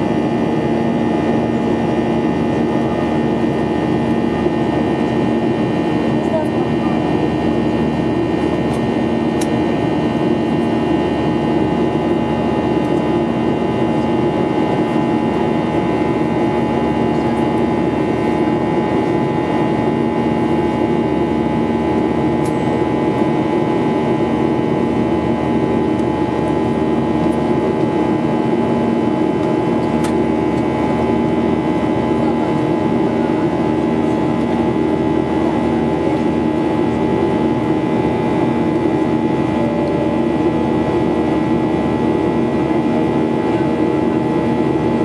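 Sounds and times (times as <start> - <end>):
airplane cabin engine drone: 0.0 - 45.0.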